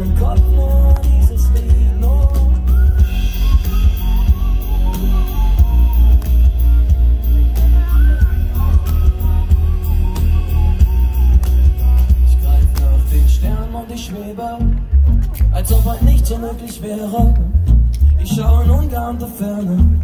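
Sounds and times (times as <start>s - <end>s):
heavy pulsing bass: 0.0s - 20.0s
person singing: 0.0s - 20.0s.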